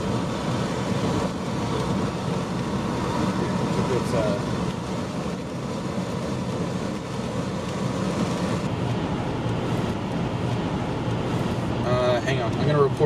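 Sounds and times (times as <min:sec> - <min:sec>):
car engine low drone: 0:00.0 - 0:13.0
tyres on wet pavement: 0:00.0 - 0:13.0.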